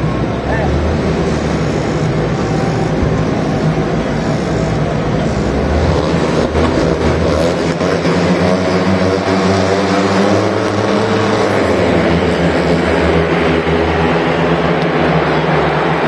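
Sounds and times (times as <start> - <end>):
motorcycle engines revving and accelerating: 0.0 - 16.0.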